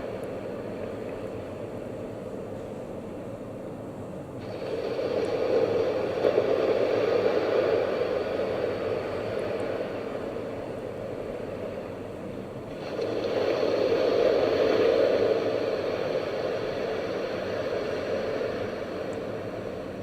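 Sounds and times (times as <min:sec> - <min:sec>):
steady rushing noise from speaker: 0:00.0 - 0:20.0.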